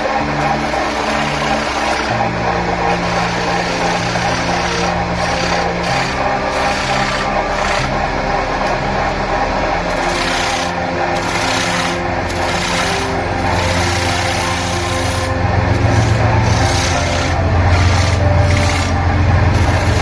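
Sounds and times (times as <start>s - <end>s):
lathe motor hum: 0.0s - 20.0s
turning tool scraping wood: 0.0s - 20.0s.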